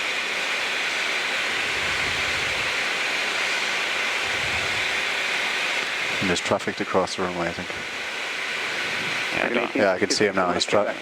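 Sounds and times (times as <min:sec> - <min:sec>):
air-conditioning: 0:00.0 - 0:10.9
airflow rushing over cockpit: 0:01.4 - 0:11.0.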